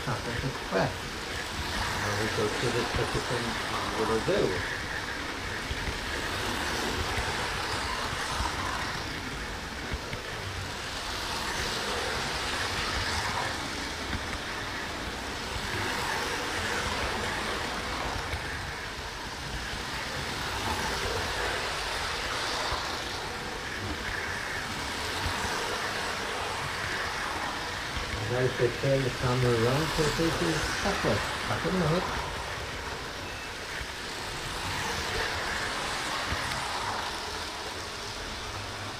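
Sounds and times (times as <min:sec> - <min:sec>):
model train wheels rattling on rails: 0:00.0 - 0:38.9.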